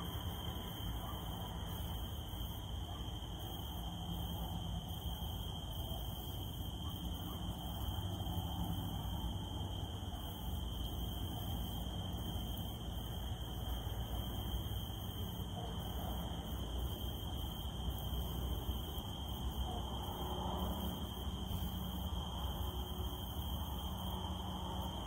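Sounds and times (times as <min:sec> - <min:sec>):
cicadas droning: 0:00.0 - 0:25.0.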